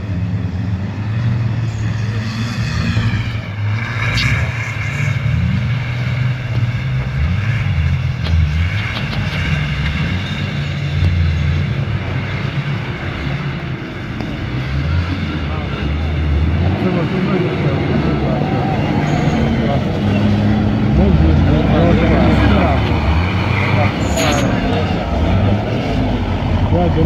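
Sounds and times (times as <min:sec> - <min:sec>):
off-road vehicle engines revving: 0:00.0 - 0:27.0.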